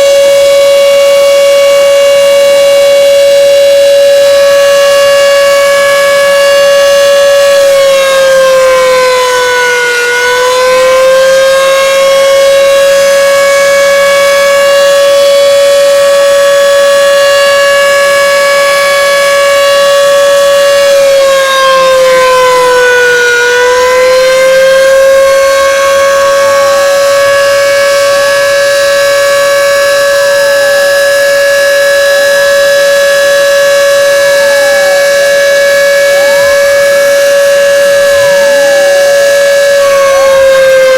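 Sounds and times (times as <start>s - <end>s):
loud siren wail: 0.0s - 40.9s.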